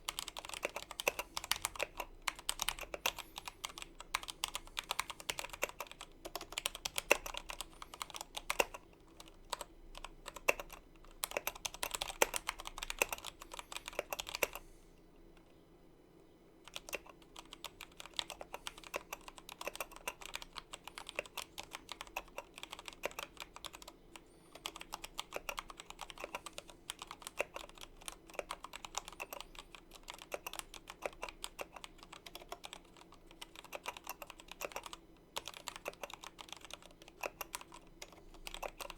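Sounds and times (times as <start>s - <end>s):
mechanical keyboard typing: 0.0s - 14.6s, 16.6s - 38.9s.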